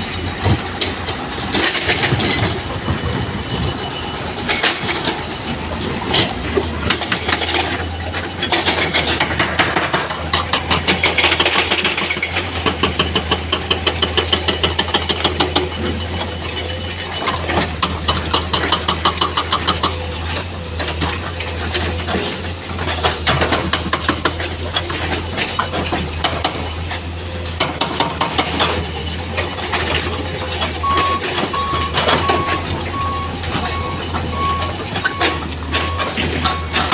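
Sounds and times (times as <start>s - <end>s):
heavy diesel engine running: 0.0s - 36.9s
metal clanks and rattles: 0.0s - 36.9s.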